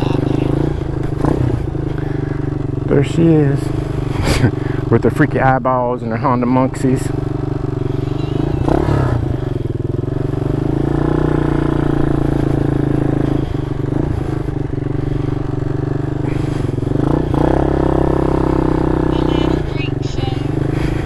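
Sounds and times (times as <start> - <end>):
mini motorcycle engine running: 0.0 - 21.0.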